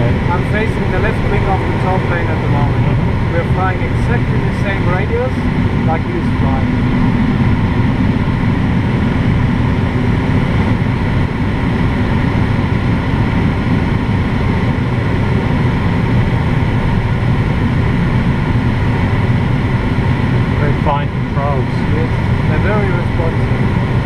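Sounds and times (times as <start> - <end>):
low drone: 0.0 - 24.0
rush of cockpit airflow: 0.0 - 24.0.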